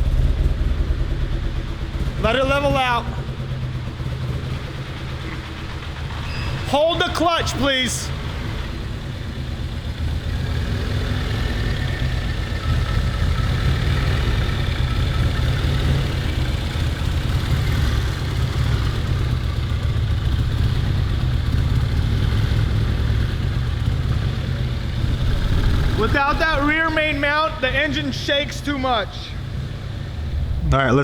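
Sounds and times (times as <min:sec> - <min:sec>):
car engine idling: 0:00.0 - 0:31.0
engine rattling: 0:00.0 - 0:31.0.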